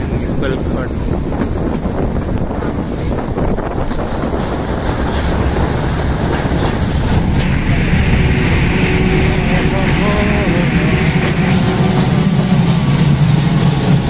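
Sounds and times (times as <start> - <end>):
train wheels rumbling on rail: 0.0 - 14.0
rail joint clicks: 0.1 - 14.0.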